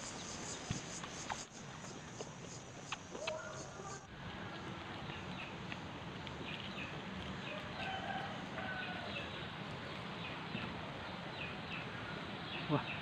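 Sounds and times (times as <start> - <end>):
birds chirping: 0.0 - 13.0
outdoor hiss: 0.0 - 13.0.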